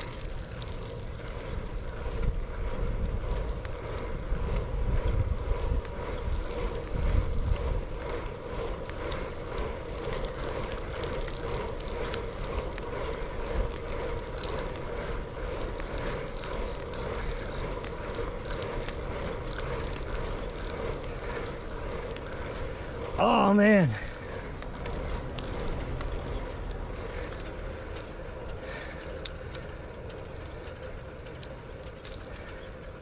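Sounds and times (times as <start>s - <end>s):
bicycle tyre and wind rush: 0.0s - 33.0s
faint whir: 0.0s - 33.0s.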